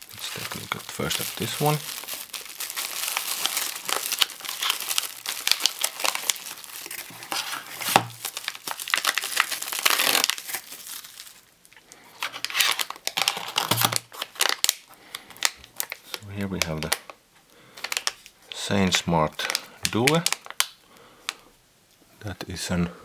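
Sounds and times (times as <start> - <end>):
bubble wrap and plastic bag crinkling: 0.0 - 17.2, 17.8 - 21.4.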